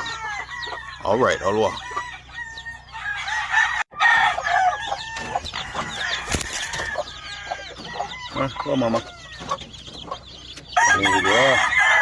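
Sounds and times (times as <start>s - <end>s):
rooster crowing: 0.0s - 9.5s, 10.8s - 12.0s
chicks peeping: 0.0s - 12.0s
hens clucking: 0.0s - 12.0s.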